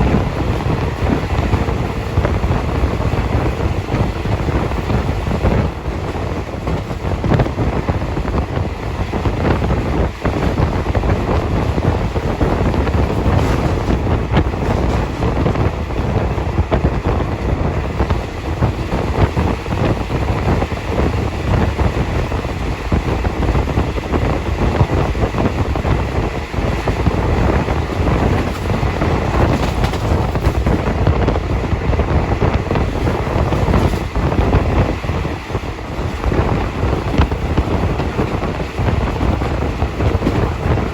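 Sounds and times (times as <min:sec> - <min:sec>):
train wheels rumbling on track: 0:00.0 - 0:40.9
wind buffeting microphone: 0:00.0 - 0:40.9.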